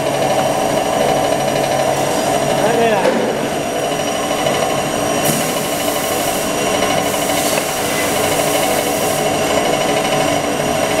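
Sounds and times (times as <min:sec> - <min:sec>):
grinding machine humming: 0:00.0 - 0:11.0.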